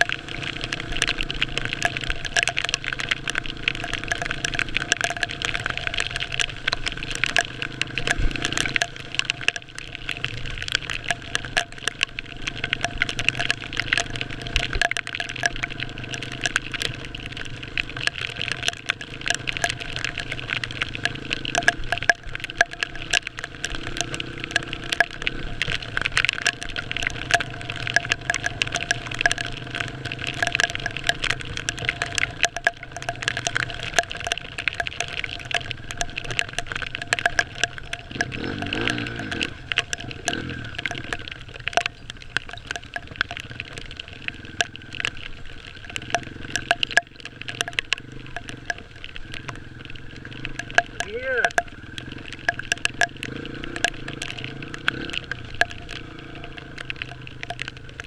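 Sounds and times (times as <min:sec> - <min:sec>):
water crackling on camera housing: 0:00.0 - 0:58.0.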